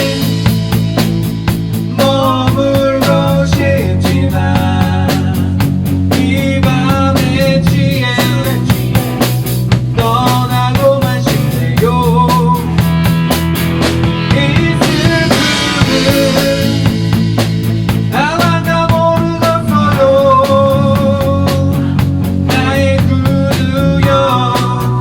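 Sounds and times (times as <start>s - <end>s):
drum kit steady beat: 0.0s - 25.0s
rock band playing: 0.0s - 25.0s.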